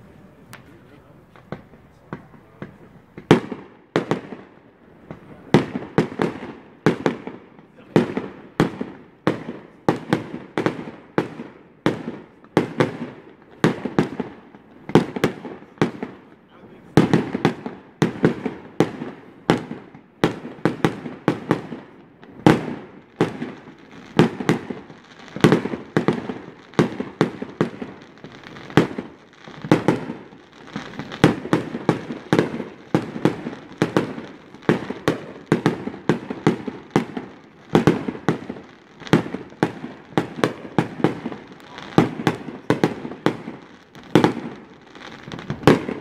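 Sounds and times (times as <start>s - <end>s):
fireworks bursting: 0.0s - 46.0s.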